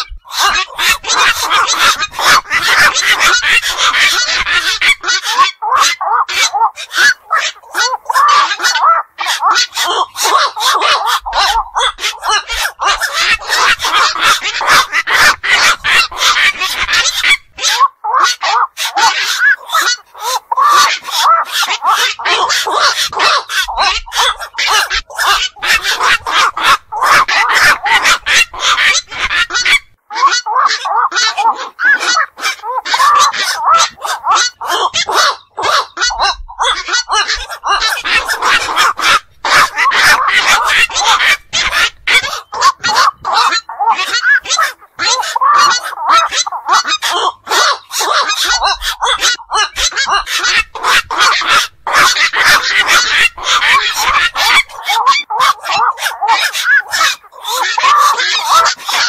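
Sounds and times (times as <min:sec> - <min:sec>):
heron calls: 0:00.0 - 0:59.0.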